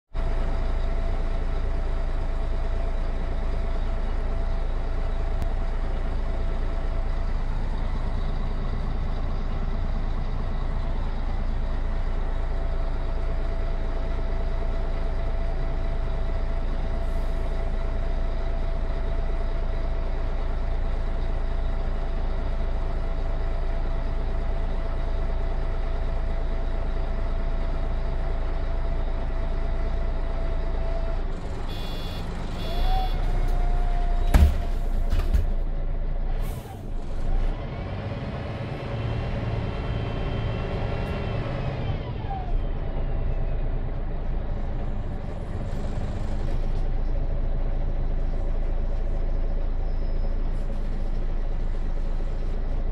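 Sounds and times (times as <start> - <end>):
diesel bus engine idling: 0.1 - 52.9.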